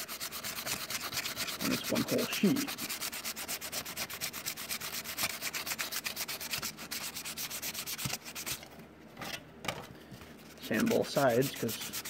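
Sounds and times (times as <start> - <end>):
sandpaper rubbing on plastic: 0.0 - 8.7, 10.6 - 12.0.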